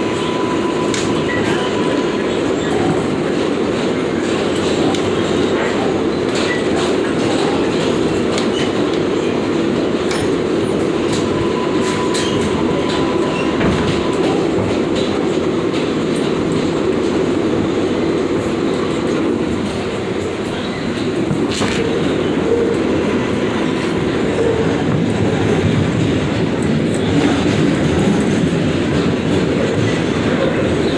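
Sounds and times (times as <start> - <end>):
train wheels rumbling: 0.0 - 30.9.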